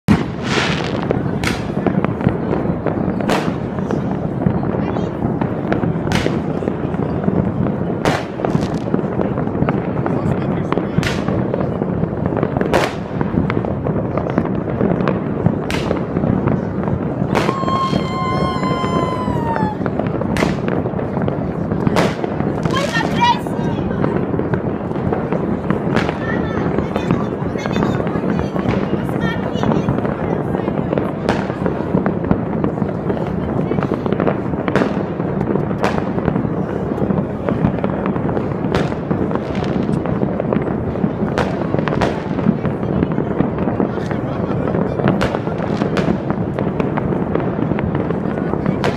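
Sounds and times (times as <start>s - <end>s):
fireworks crackling and popping: 0.0s - 48.9s
sharp firework bangs: 0.1s - 48.9s.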